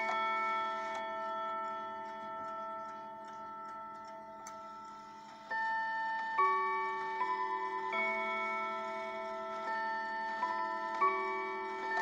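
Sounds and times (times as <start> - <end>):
clock chime notes ringing: 0.0 - 12.0
clock ticking: 0.0 - 12.0.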